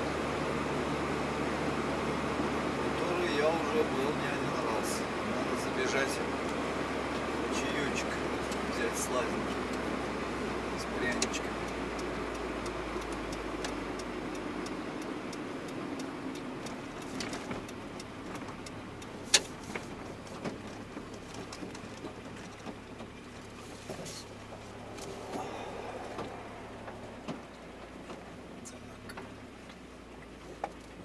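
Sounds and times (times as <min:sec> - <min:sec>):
turn signal ticking: 0:00.0 - 0:31.0
van engine and road noise: 0:00.0 - 0:31.0.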